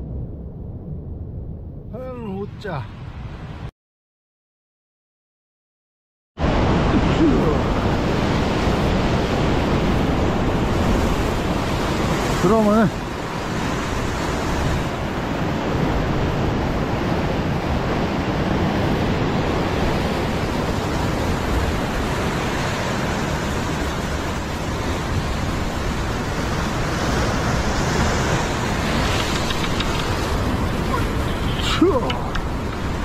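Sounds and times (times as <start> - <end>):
surf breaking over rocks: 6.4 - 33.0
wind on microphone: 6.4 - 33.0.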